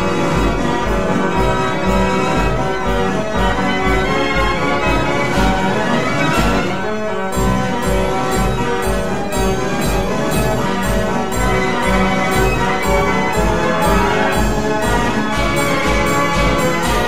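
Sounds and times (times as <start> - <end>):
steady bass beat: 0.0 - 6.6, 7.3 - 17.0
band organ playing a march: 0.0 - 17.0.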